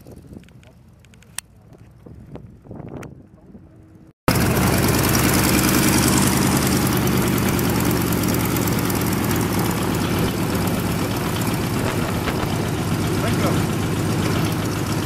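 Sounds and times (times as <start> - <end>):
biplane engine and propeller: 0.0 - 15.0.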